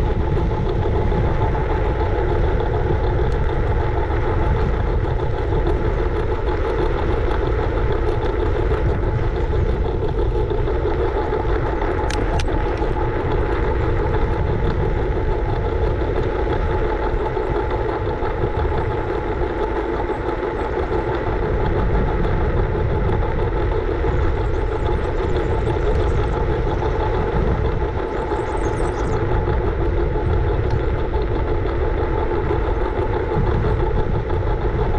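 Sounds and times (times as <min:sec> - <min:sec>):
scooter wheels and drive humming: 0:00.0 - 0:34.9
wind rumble on microphone: 0:00.0 - 0:34.9.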